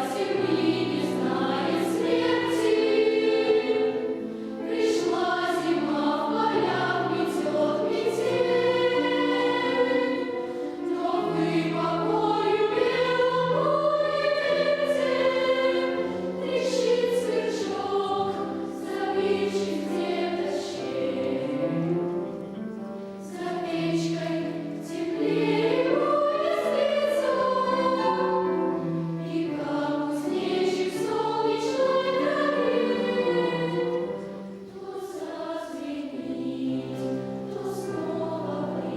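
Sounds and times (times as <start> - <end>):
children's choir singing: 0.0 - 38.9.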